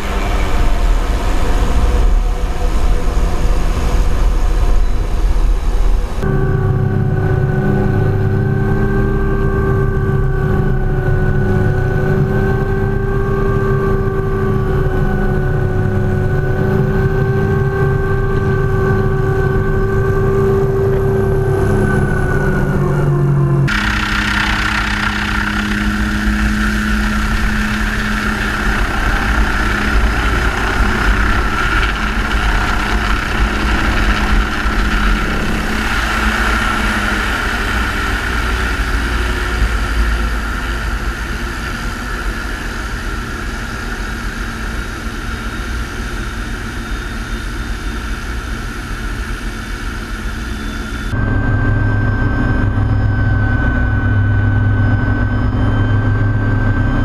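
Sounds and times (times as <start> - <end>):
helicopter turbine and rotor: 0.0 - 57.0
turbine whine in cockpit: 0.0 - 57.0.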